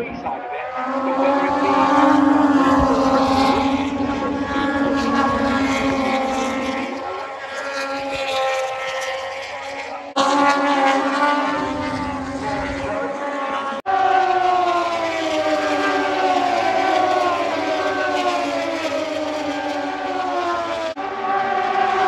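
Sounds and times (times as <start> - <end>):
racing motorcycle engines at high revs: 0.0 - 22.0.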